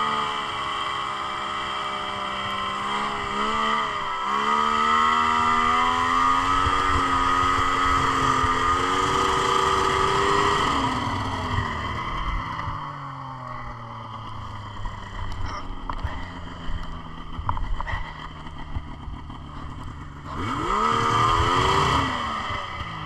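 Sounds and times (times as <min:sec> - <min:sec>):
snowmobile engine under throttle: 0:00.0 - 0:23.0.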